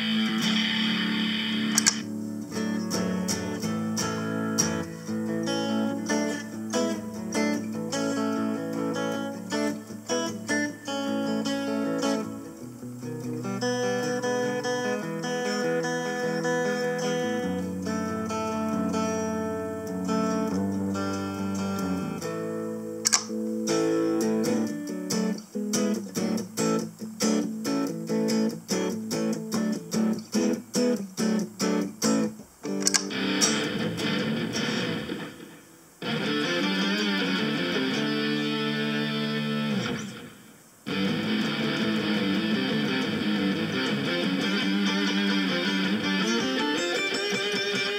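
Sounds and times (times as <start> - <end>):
electric guitar chords: 0.0 - 47.9.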